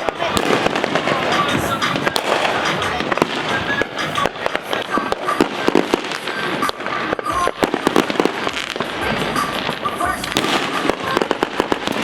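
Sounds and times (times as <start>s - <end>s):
fireworks bangs and pops: 0.0s - 12.0s
fireworks crackle: 0.0s - 12.0s.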